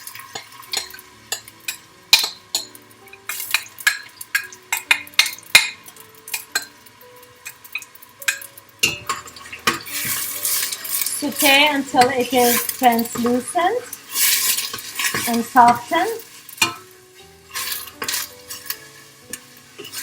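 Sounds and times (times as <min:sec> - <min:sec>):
onions sizzling in oil: 0:00.0 - 0:20.0
utensil clinking and scraping pot: 0:00.0 - 0:20.0.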